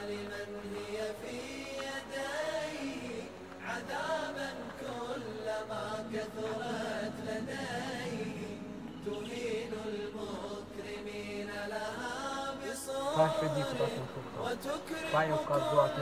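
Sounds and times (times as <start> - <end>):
person chanting long sung phrases: 0.0 - 16.0.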